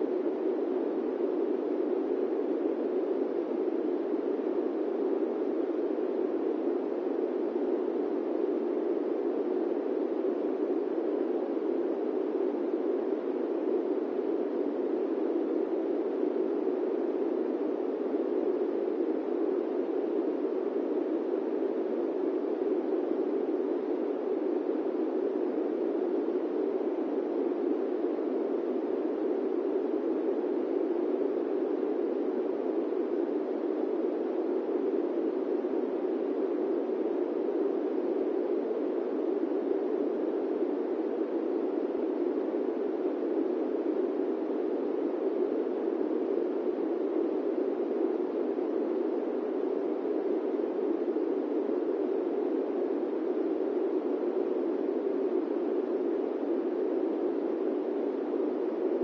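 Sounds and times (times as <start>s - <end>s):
airplane cabin white noise: 0.0s - 59.0s.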